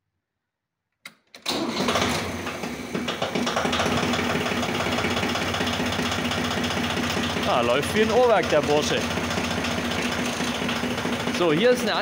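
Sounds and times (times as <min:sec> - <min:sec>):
diesel tractor engine idling: 0:01.6 - 0:12.0.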